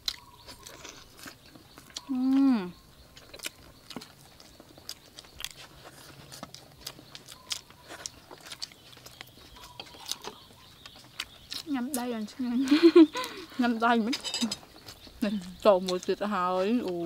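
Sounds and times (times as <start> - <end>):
people chewing and crunching: 0.0 - 17.0.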